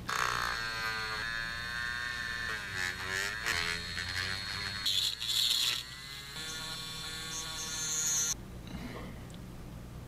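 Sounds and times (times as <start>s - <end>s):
blade cutting spinning plastic: 0.1s - 8.4s
rotary tool motor whining: 0.1s - 8.4s.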